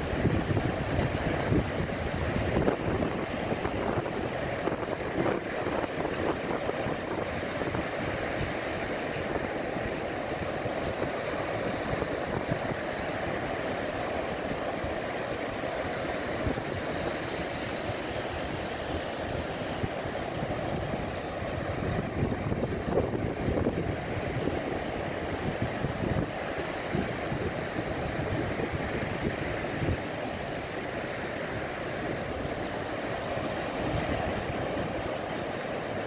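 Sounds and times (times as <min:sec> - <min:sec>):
wind buffeting microphone: 0:00.0 - 0:15.6, 0:16.2 - 0:36.0
small waves breaking on sand: 0:00.0 - 0:36.0.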